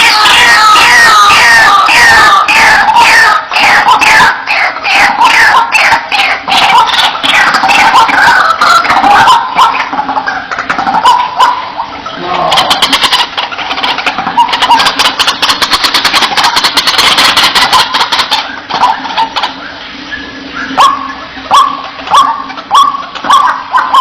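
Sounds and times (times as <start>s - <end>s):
waterhen harsh chattering: 0.0s - 24.0s
waterhen repeated wak calls: 0.0s - 24.0s.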